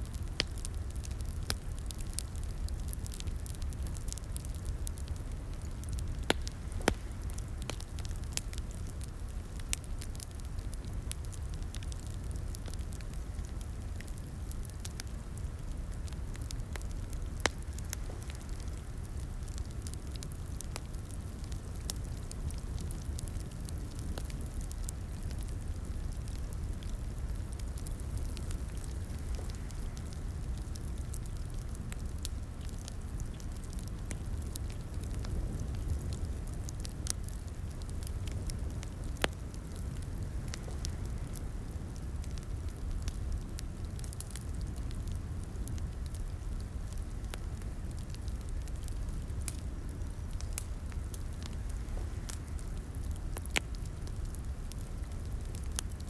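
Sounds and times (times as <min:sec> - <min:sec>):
low rumble of flames: 0:00.0 - 0:56.0
sharp pops of fire: 0:00.0 - 0:56.0
wood fire crackling: 0:00.0 - 0:56.0.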